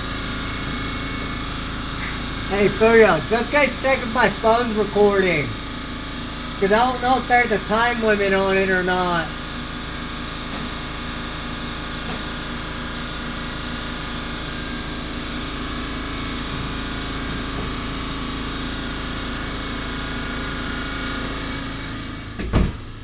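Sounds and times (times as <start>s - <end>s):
motor humming steadily: 0.0s - 23.0s.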